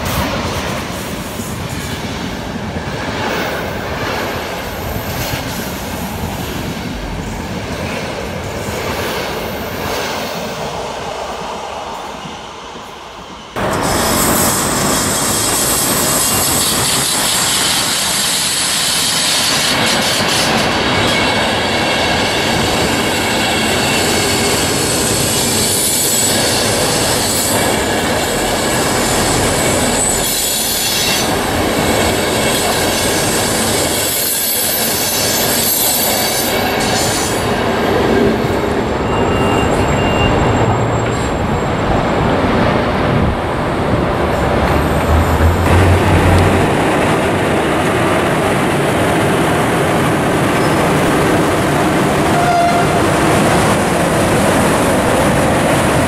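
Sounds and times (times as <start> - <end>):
train passing on rails: 0.0 - 56.0.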